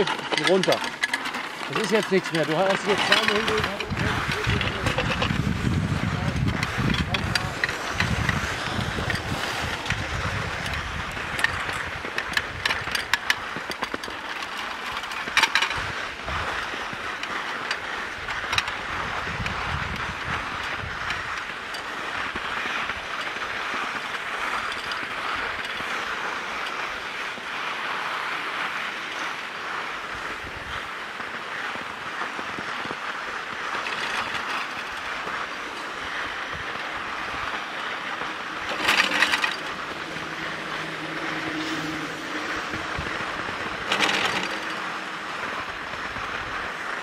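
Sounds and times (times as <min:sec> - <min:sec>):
skis hissing over snow: 0:00.0 - 0:47.0.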